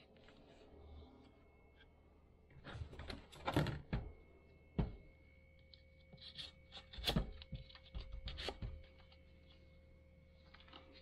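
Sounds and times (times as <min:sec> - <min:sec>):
faint steady high tone: 0:00.0 - 0:11.0.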